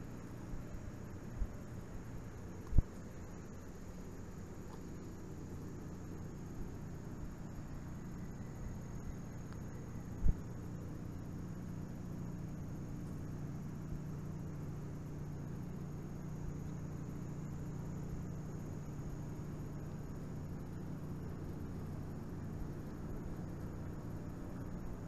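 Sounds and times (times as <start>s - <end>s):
low machinery hum: 0.0s - 25.0s.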